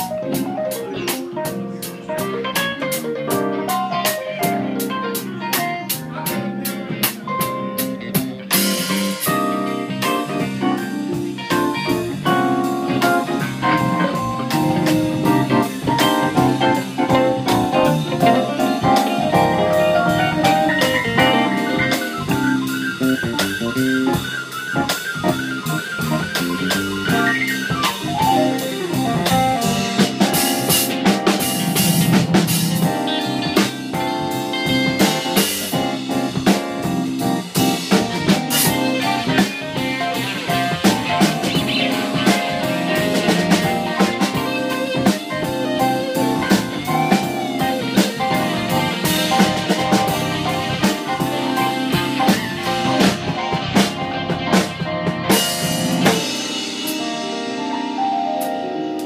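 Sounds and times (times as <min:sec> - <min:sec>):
bass guitar: 0:00.0 - 0:59.0
drum kit: 0:00.0 - 0:59.0
electric guitar: 0:00.0 - 0:59.0
keyboard: 0:00.0 - 0:59.0.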